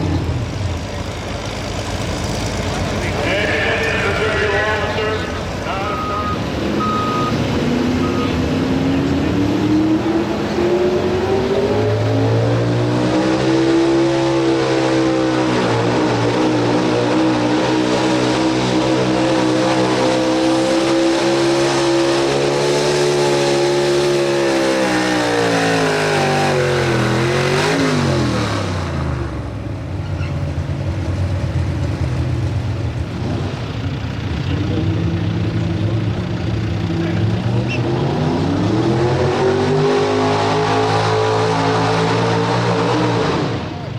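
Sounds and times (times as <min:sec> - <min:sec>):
truck engine at high revs: 0:00.0 - 0:43.9.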